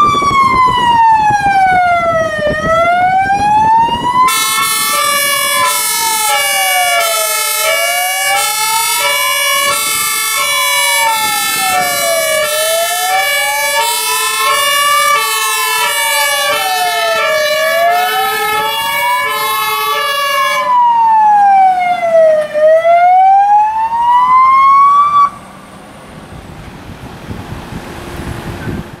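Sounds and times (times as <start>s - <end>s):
two-tone siren: 0.0s - 25.4s
wailing siren: 0.0s - 25.5s
vehicle noise: 0.0s - 29.0s.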